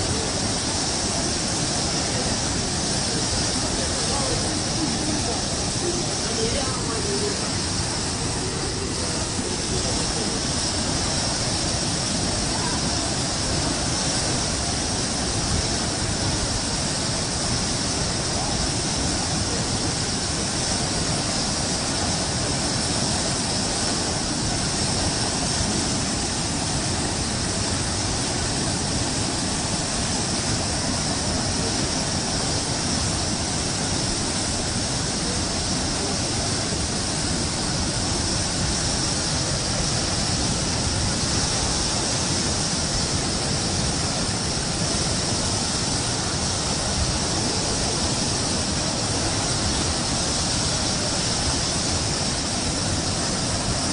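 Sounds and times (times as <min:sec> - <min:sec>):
river floodwater rushing: 0:00.0 - 0:53.9.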